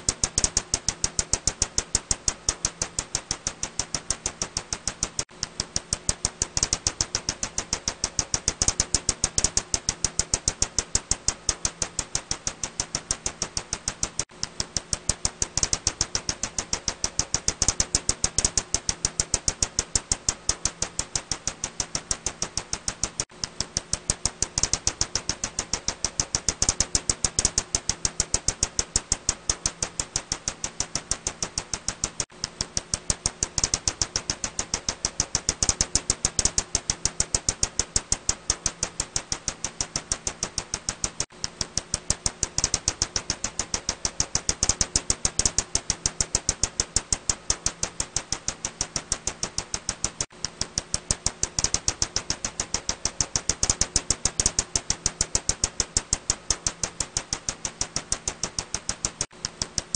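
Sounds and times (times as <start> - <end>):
bat echolocation clicks: 0.0 - 59.9.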